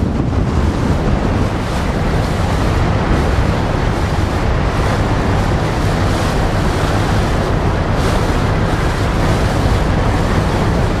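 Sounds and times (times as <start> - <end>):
boat noise: 0.0 - 11.0
water: 0.0 - 11.0
wind rumble on microphone: 0.0 - 11.0.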